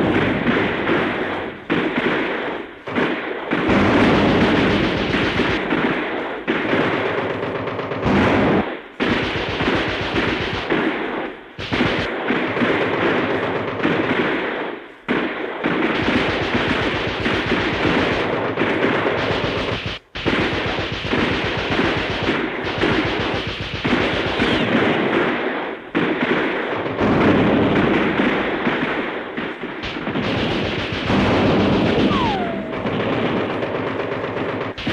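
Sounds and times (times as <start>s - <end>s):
gunshots: 0.0s - 34.9s
rapid machine-gun fire: 0.0s - 34.9s.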